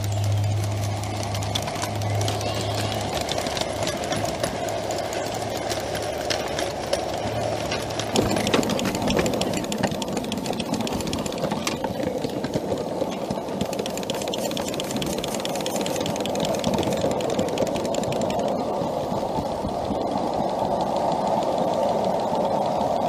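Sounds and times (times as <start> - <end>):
model steam locomotive clattering: 0.0 - 23.0.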